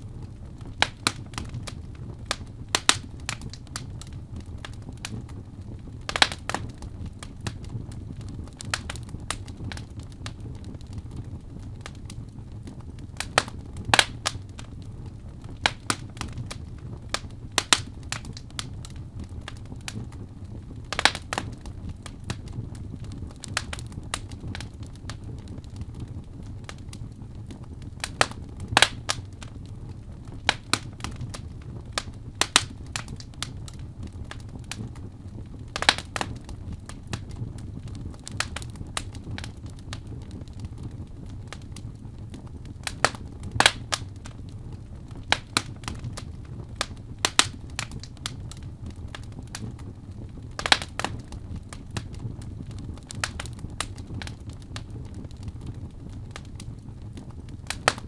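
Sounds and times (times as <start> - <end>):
fireplace fire crackling and popping: 0.0 - 58.0.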